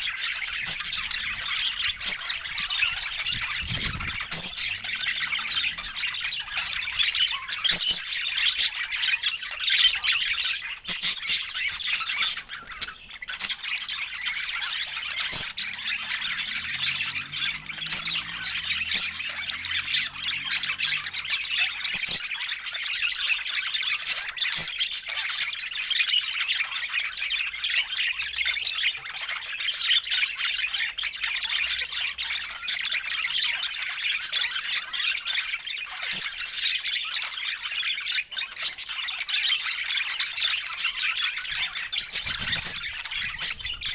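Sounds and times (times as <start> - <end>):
budgerigars chattering and squawking: 0.0 - 43.9.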